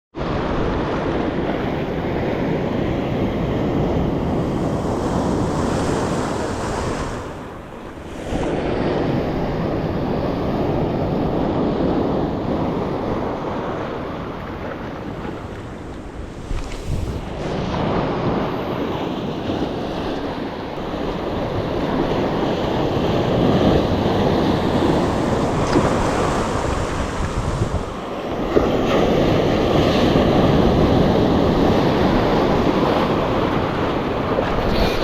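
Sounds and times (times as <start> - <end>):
breaking surf: 0.2 - 35.0
wind buffeting microphone: 0.2 - 35.0.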